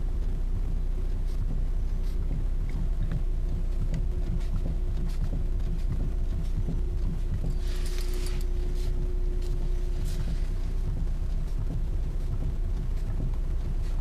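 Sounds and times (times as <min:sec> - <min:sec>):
faint steady whine: 0:00.0 - 0:14.0
low hum: 0:00.0 - 0:14.0
steering knocking: 0:00.2 - 0:14.0.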